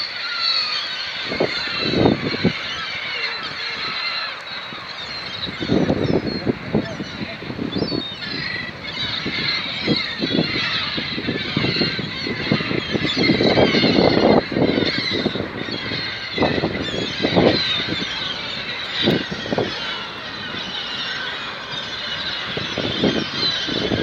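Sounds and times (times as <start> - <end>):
gulls calling: 0.0 - 24.0
low rumbling wind gusts: 0.0 - 24.0.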